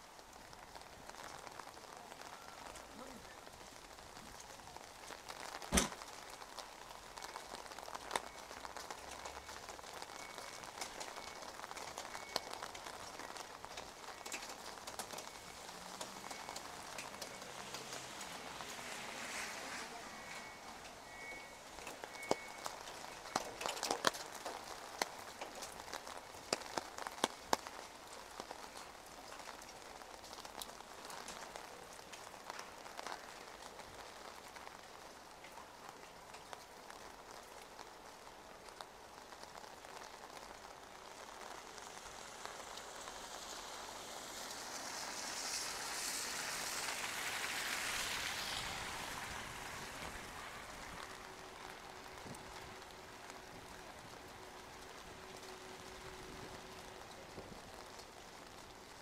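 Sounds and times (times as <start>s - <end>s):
light rain on asphalt: 0.0s - 59.0s
raindrops ticking: 0.0s - 59.0s.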